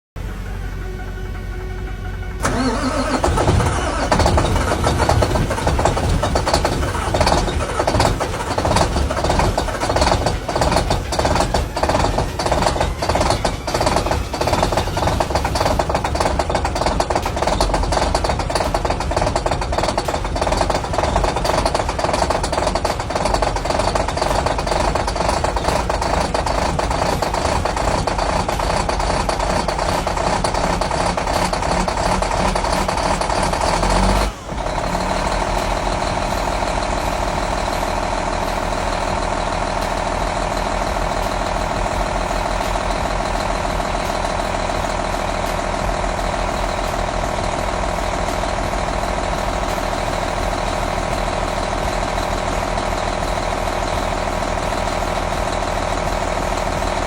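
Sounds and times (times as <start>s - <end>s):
diesel engine idling: 0.2s - 57.0s.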